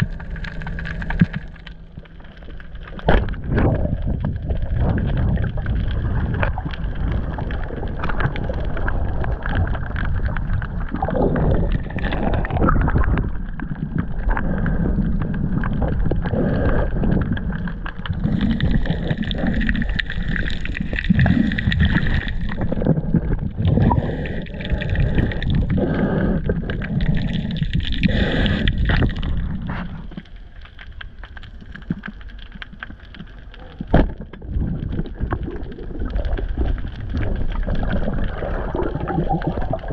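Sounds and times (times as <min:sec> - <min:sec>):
water rushing and gurgling underwater: 0:00.0 - 0:39.9.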